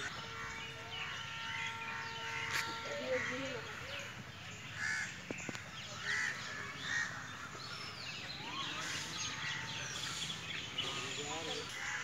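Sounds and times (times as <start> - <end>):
bird calls: 0.0 - 12.0
small birds chirping: 0.0 - 12.0.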